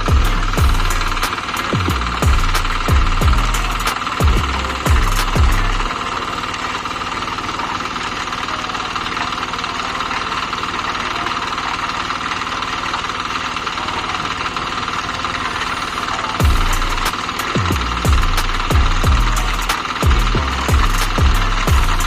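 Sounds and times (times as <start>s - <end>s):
small engine pulsing hum: 0.0s - 22.0s.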